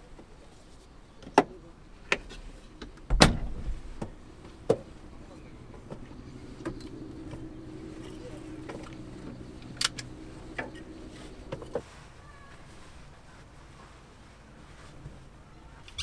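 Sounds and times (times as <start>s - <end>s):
low engine hum: 1.6s - 15.2s.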